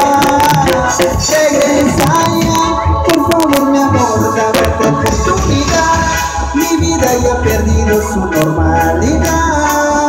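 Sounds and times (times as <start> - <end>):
gliding melody line: 0.0 - 10.0
live band music through speakers: 0.0 - 10.0
steady percussion: 0.0 - 10.0.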